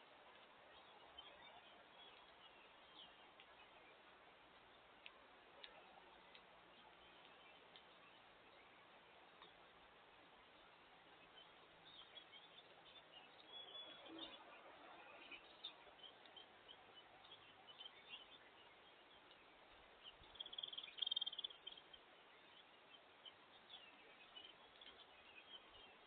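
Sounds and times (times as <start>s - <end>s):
faint outdoor hiss: 0.0s - 26.0s
small songbirds chirping: 0.0s - 26.0s.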